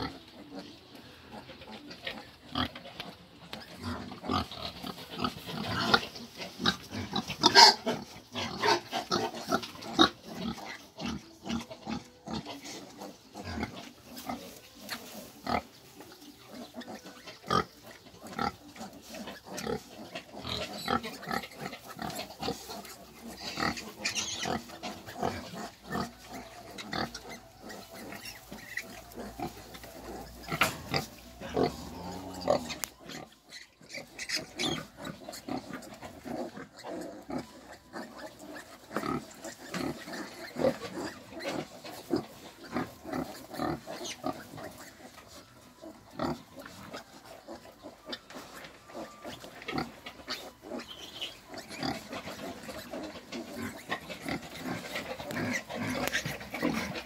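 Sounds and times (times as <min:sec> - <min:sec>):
piglets squealing and grunting: 0:00.0 - 0:57.0.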